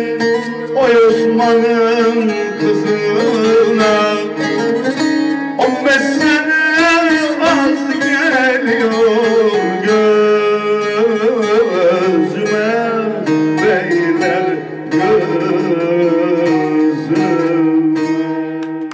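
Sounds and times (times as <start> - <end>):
man singing: 0.0 - 18.7
long-necked lute playing folk tune: 0.0 - 18.9.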